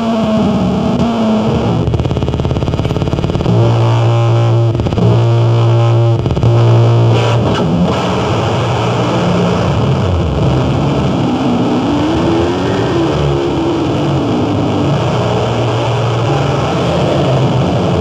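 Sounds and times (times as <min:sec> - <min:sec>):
distorted noise music: 0:00.0 - 0:18.0
low steady drone: 0:01.2 - 0:18.0.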